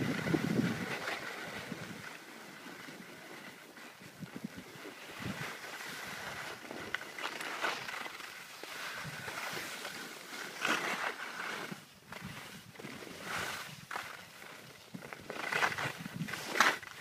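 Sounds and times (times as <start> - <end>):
edges scraping on packed snow: 0.1 - 17.0.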